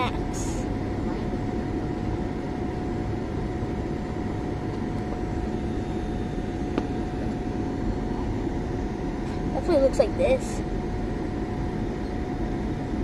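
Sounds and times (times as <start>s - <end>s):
airliner cabin rumble: 0.0s - 13.0s
thin steady whine: 0.0s - 13.0s.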